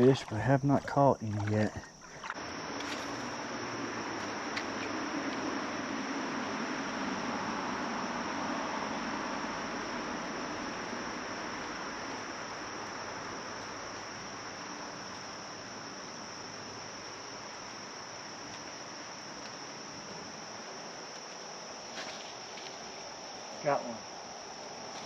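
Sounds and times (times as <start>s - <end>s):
high-pitched insect drone: 0.0s - 25.0s
soft outdoor hiss: 0.0s - 25.0s.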